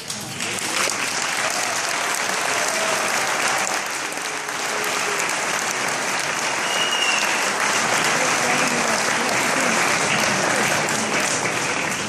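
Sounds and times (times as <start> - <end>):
guests applauding: 0.0 - 12.0.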